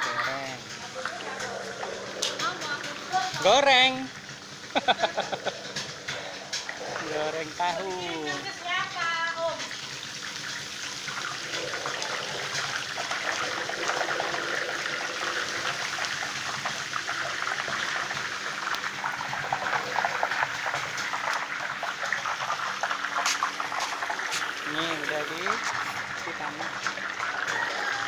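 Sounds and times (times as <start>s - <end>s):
deep-frying oil sizzling: 0.0s - 28.0s.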